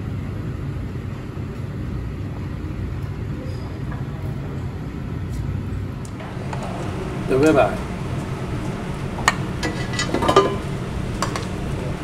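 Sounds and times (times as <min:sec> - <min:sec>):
ventilation fans rumbling: 0:00.0 - 0:12.0.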